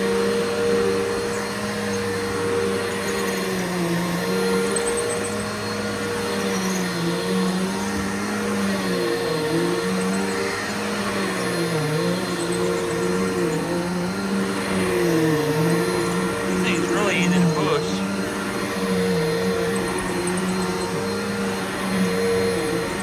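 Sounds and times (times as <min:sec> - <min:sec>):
vacuum cleaner on carpet: 0:00.0 - 0:16.6, 0:18.0 - 0:23.0.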